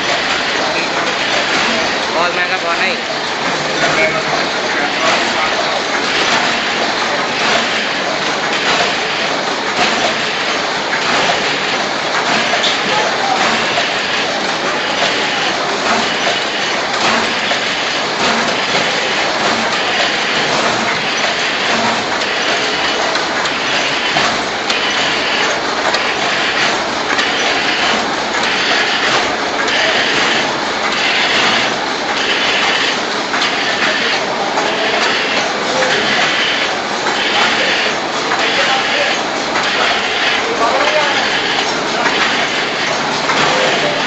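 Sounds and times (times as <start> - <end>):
packing machine clatter: 0.0 - 44.0.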